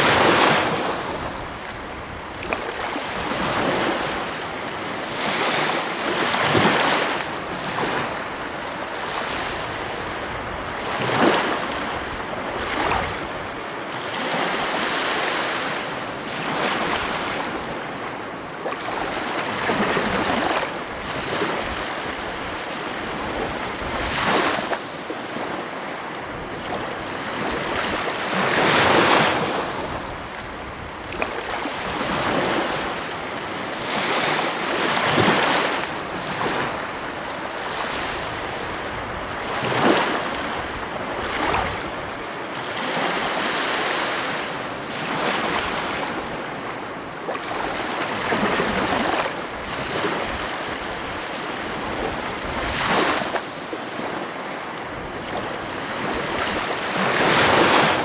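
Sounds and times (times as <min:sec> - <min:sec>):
heavy ocean waves breaking: 0:00.0 - 0:58.0.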